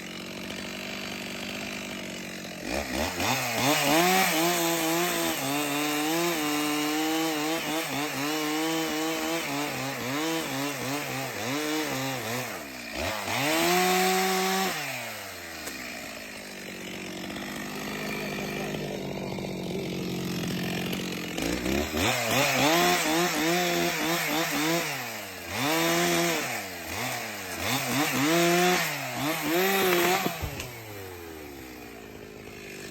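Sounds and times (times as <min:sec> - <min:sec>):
chainsaw cutting log: 0:00.0 - 0:32.9.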